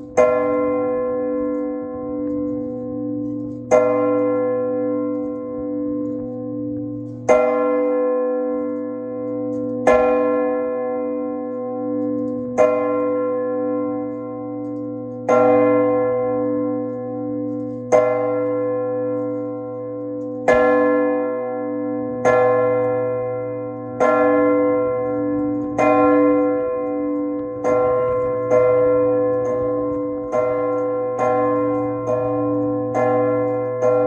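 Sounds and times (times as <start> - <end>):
church bell clanging: 0.0 - 34.0.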